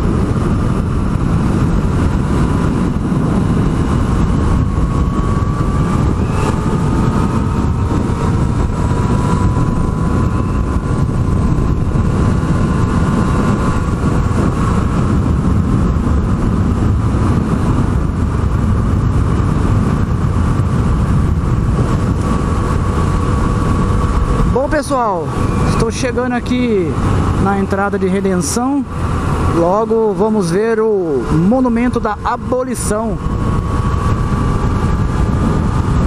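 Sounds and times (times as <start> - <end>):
motorcycle engine cruising: 0.0 - 36.0
wind rumble on microphone: 0.0 - 36.0.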